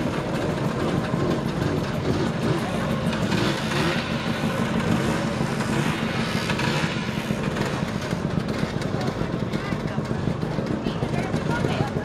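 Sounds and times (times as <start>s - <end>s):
scooter engines humming: 0.0s - 12.0s.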